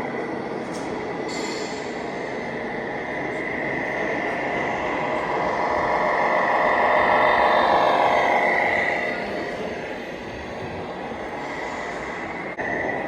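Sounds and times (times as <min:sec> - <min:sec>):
radio-controlled truck running: 0:00.0 - 0:13.0.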